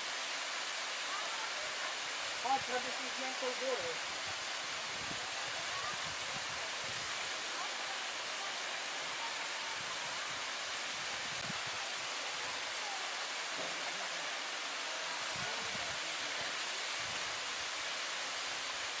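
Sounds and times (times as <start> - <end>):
water rushing in stream: 0.0 - 19.0.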